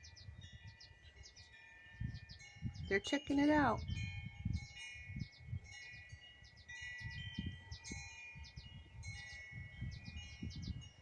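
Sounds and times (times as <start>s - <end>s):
wind chimes ringing: 0.0s - 11.0s
wind rumbling on microphone: 0.0s - 11.0s.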